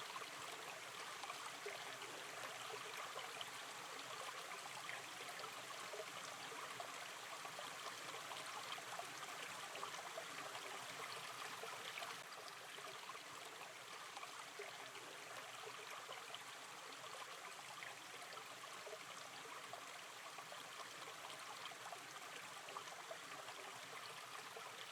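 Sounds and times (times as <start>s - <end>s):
stream flowing over stones: 0.0s - 24.9s.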